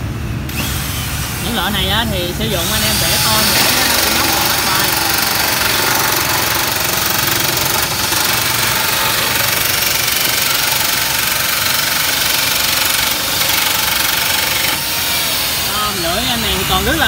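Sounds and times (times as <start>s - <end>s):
electric nibbler cutting sheet metal: 0.5s - 17.0s.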